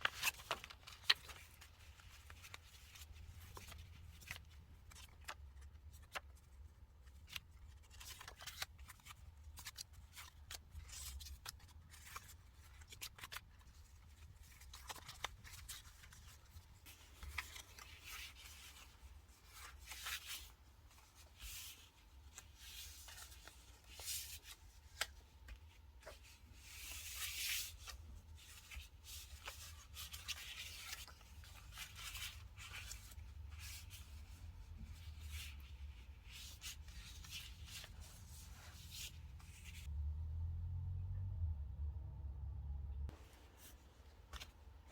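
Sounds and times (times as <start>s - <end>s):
paper rustling: 0.0s - 39.9s, 43.1s - 44.9s.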